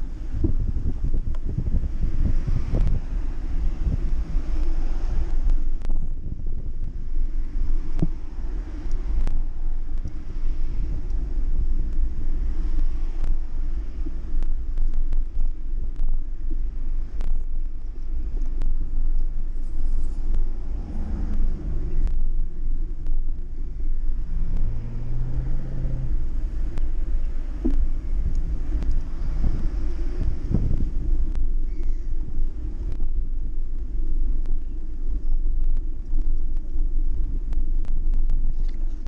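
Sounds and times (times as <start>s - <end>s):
low engine-like hum: 0.0s - 39.0s
wind and road rumble: 0.0s - 39.0s.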